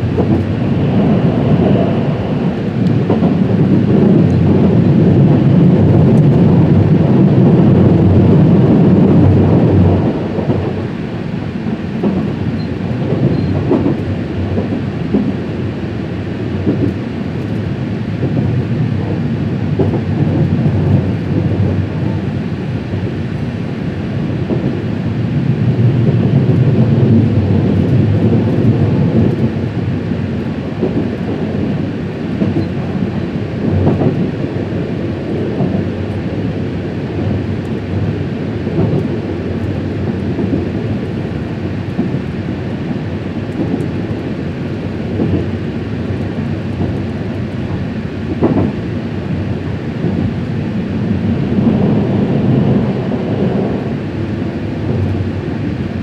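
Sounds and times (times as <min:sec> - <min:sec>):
train rumbling along track: 0:00.0 - 0:56.0.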